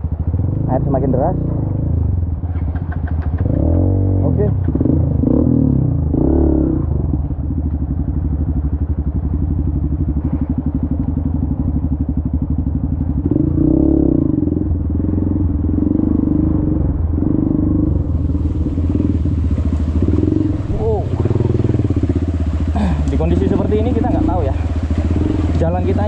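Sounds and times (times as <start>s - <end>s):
dirt bike engine chugging: 0.0s - 26.0s.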